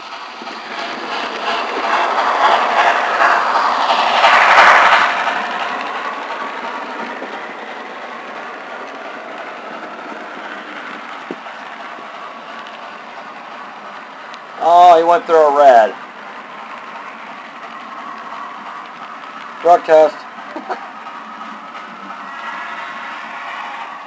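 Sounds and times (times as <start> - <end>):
model train running past: 0.0 - 24.0.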